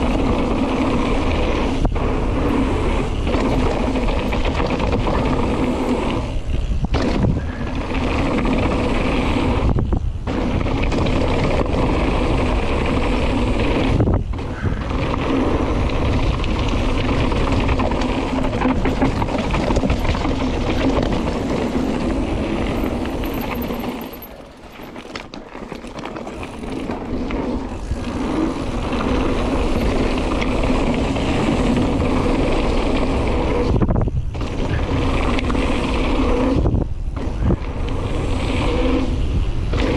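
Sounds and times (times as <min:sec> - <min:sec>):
bike rattling: 0:00.0 - 0:39.9
tyres rushing on dirt and rock: 0:00.0 - 0:39.9.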